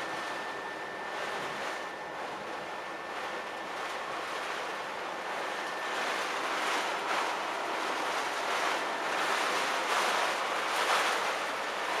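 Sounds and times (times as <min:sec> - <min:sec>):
heavy rain on truck cab: 0:00.0 - 0:12.0.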